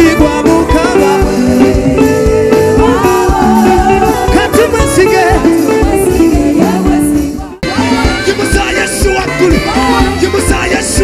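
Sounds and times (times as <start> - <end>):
band with guitar and beat: 0.0 - 11.0.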